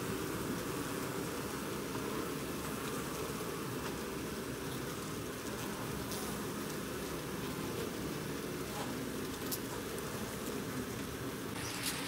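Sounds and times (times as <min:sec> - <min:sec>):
bees humming: 0:00.0 - 0:12.0.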